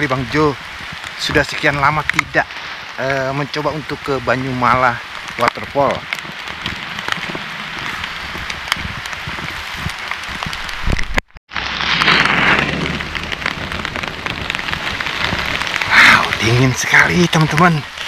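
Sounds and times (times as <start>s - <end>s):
raindrops ticking: 0.0s - 11.4s, 12.7s - 18.0s
heavy rain on foliage: 0.0s - 18.0s.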